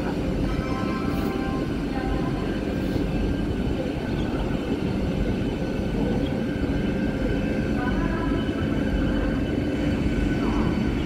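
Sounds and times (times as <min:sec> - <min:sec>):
electric train rumbling and humming: 0:00.0 - 0:11.0.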